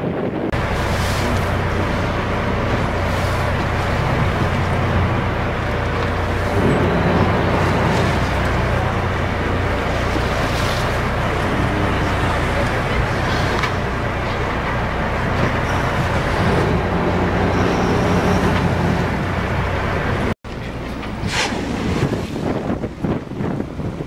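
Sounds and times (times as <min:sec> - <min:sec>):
boat engine droning: 0:00.5 - 0:24.0.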